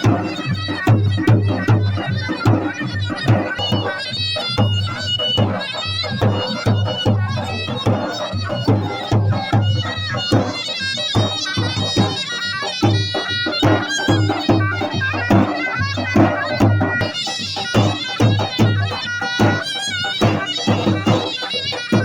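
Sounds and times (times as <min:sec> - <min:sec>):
shrill double-reed melody: 0:00.0 - 0:22.0.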